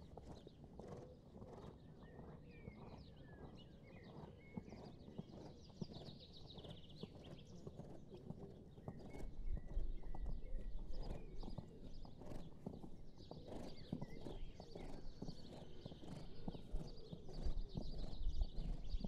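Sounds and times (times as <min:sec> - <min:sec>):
horse hooves trotting on sand: 0:00.0 - 0:19.0.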